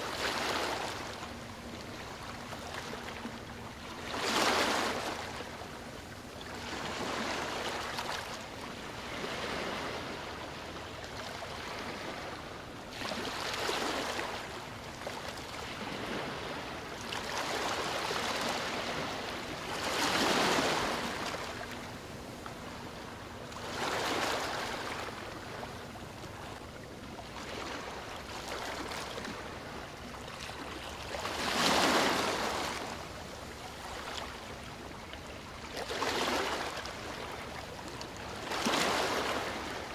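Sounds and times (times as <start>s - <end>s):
sea waves breaking: 0.0s - 5.9s, 6.5s - 39.9s.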